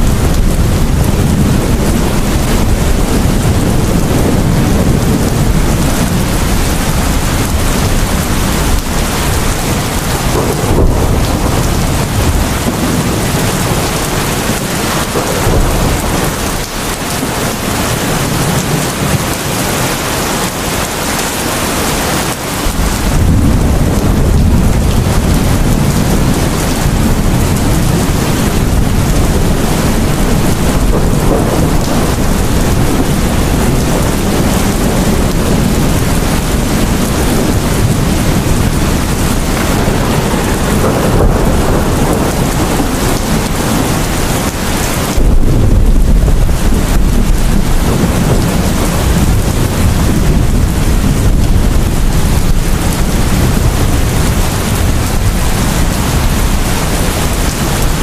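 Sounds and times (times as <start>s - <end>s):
heavy rain pouring: 0.0s - 58.0s
rolling thunder rumbling: 0.0s - 58.0s.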